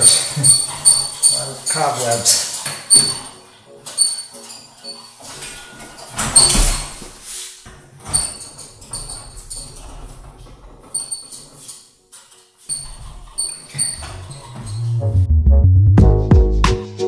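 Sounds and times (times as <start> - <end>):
metal scaffold frames clanking: 0.0 - 15.2.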